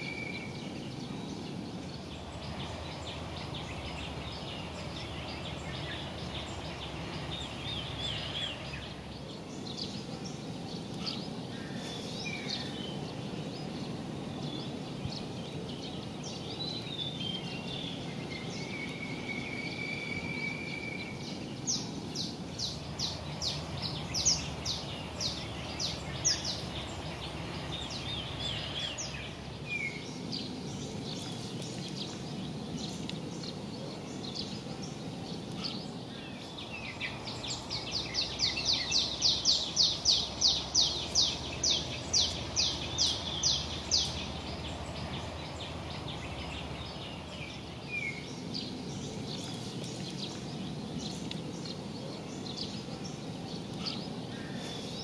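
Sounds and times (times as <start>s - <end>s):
outdoor background noise: 0.0s - 55.0s.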